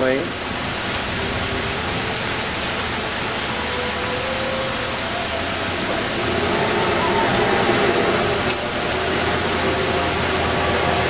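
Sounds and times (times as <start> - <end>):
torrential rain: 0.0 - 11.0.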